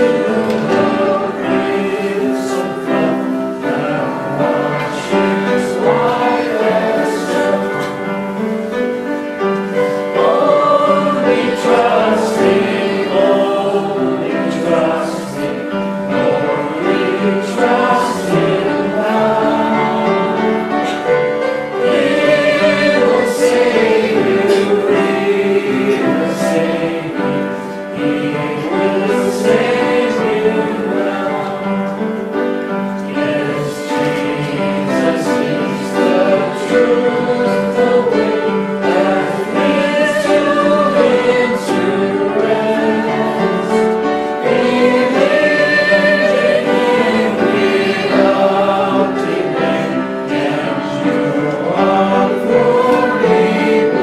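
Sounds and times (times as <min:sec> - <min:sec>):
congregation singing a hymn: 0:00.0 - 0:54.0
instrumental accompaniment: 0:00.0 - 0:54.0.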